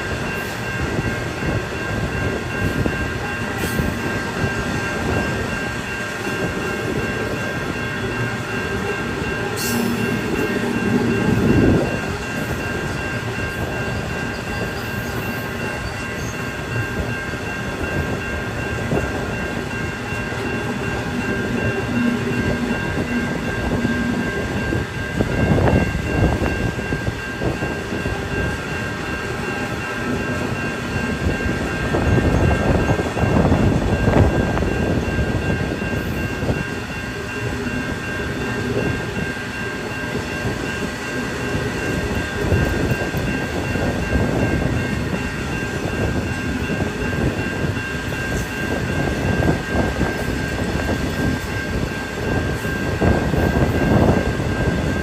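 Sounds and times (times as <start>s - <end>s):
high ringing tones: 0.0s - 55.0s
steel wheels rumbling on rail: 0.0s - 55.0s.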